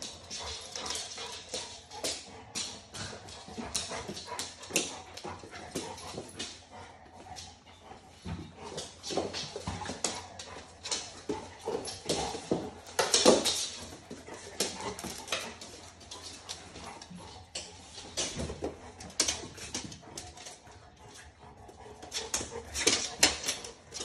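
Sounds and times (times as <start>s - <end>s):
dog claws clicking on wooden floor: 0.0s - 7.6s, 8.6s - 24.0s.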